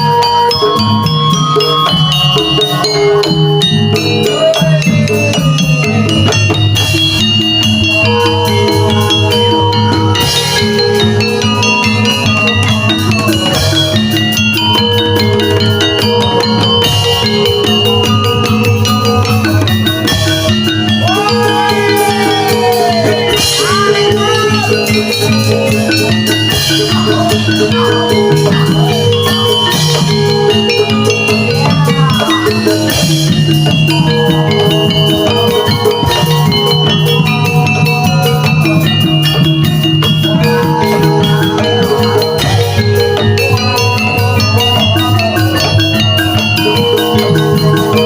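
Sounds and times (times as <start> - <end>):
drums: 0.0 - 48.0
gamelan metallophones ringing: 0.0 - 48.0
sliding melody line: 0.0 - 48.0.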